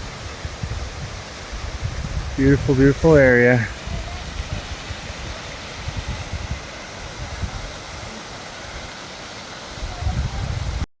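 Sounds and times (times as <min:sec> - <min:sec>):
waterfall rushing: 0:00.0 - 0:10.9
wind buffeting microphone: 0:00.0 - 0:10.9.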